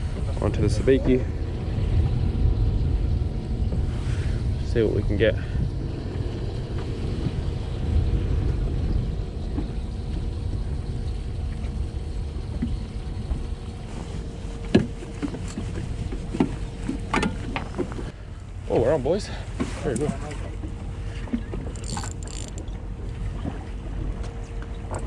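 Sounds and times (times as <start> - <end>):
wind and water around boat: 0.0 - 25.0.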